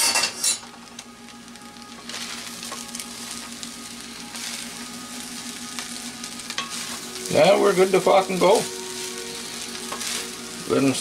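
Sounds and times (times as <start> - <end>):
food sizzling in a frying pan: 0.0 - 11.0
steady low hum: 0.5 - 11.0.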